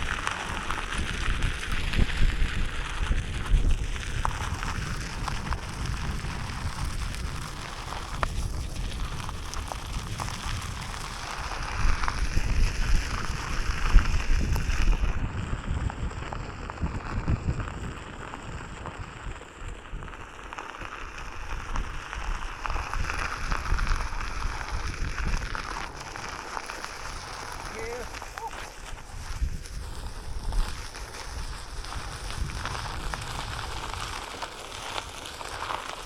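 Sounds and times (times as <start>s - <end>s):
wind buffeting the microphone: 0.0s - 36.0s.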